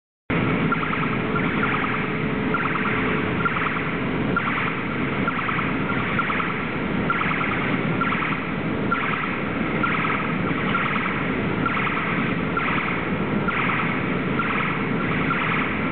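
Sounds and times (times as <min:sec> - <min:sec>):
vehicle running noise: 0:00.3 - 0:15.9
vehicle warning signal: 0:00.6 - 0:15.9.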